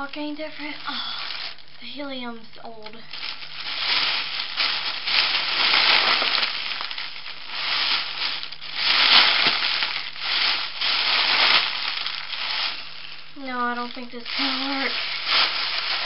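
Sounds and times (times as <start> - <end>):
foil balloon crinkling: 0.0 - 16.0.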